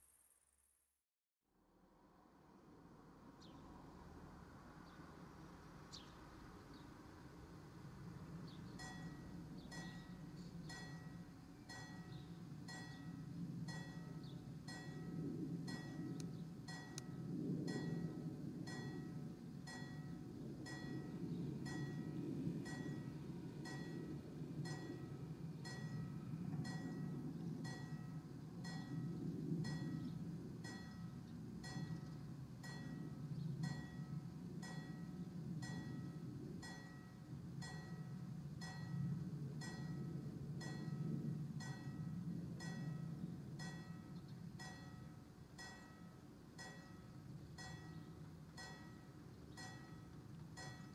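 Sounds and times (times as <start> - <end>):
low rumble: 1.8 - 43.6
level-crossing warning bells: 8.8 - 50.9.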